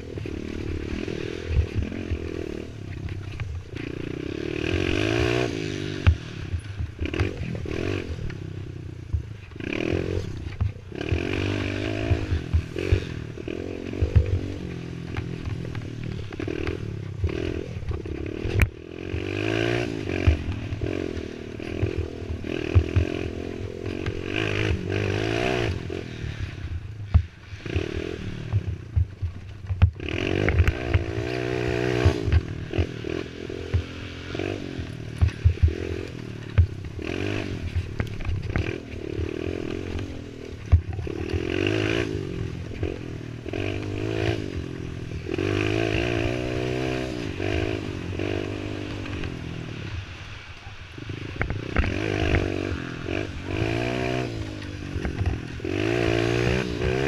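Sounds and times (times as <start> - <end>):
knocks and clatter over bumps: 0.0 - 25.8, 26.8 - 27.4, 28.4 - 46.9, 51.3 - 57.0
quad engine revving: 0.0 - 29.1, 29.8 - 50.2, 51.0 - 57.0.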